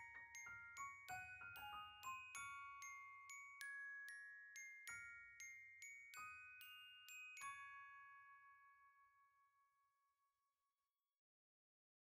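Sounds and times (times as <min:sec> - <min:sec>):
bell-like music notes: 0:00.0 - 0:09.7.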